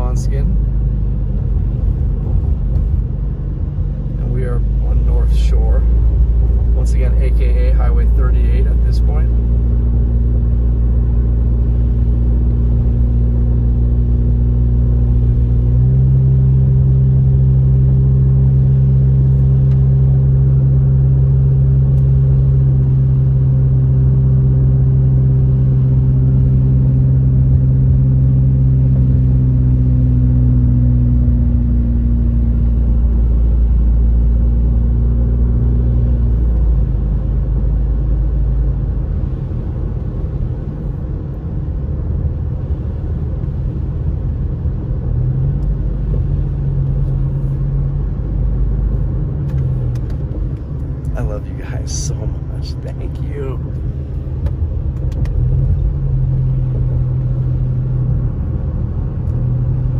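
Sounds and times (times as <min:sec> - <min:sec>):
car engine and tyre drone: 0:00.0 - 0:59.9
rough road rumble: 0:00.0 - 0:59.9.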